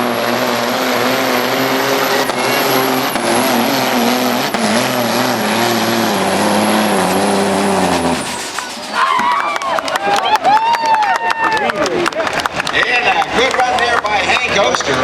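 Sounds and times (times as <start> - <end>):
diesel engine under full load: 0.0 - 15.0.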